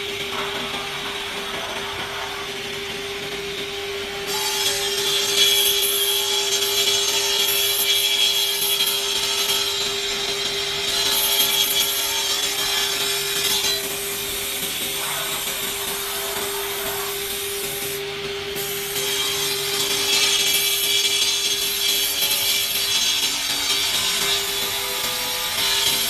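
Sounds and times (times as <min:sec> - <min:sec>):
wood saw machine cutting boards: 0:00.0 - 0:26.0.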